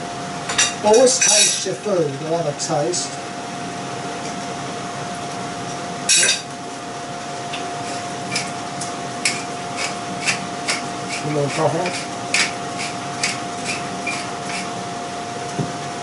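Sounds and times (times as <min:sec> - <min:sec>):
kitchen hum: 0:00.0 - 0:16.0.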